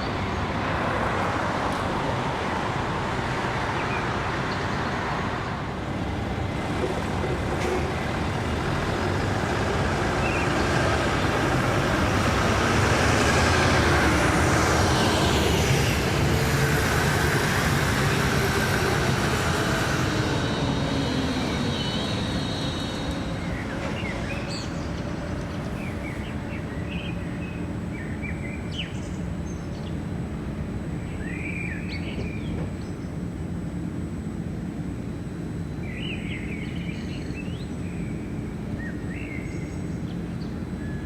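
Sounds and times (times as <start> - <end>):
tram rolling rumble: 0.0 - 41.0.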